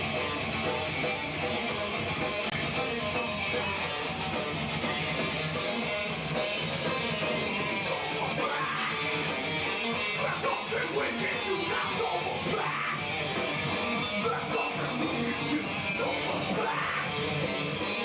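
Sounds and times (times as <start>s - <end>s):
heavy rock music: 0.0s - 18.0s.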